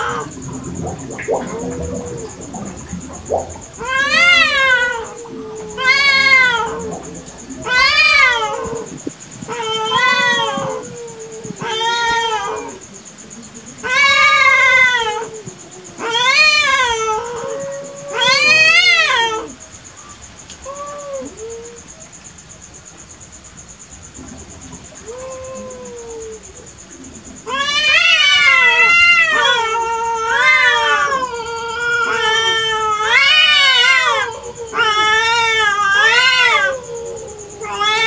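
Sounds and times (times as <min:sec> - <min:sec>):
cats yowling: 0:00.0 - 0:12.9, 0:13.8 - 0:19.6, 0:20.5 - 0:22.0, 0:24.9 - 0:26.8, 0:27.4 - 0:38.0.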